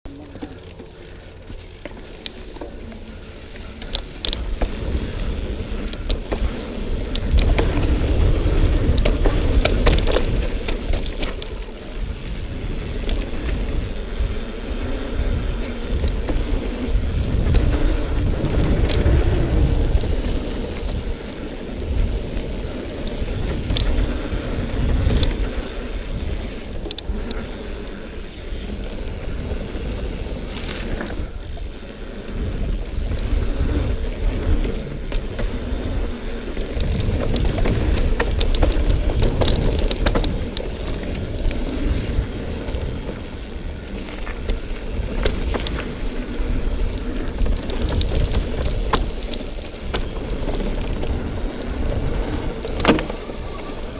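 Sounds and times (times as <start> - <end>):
bike clicks and rattles: 0.1 - 53.9
bike tyres rumbling over dirt: 0.1 - 53.9
wind buffeting microphone: 0.3 - 53.9.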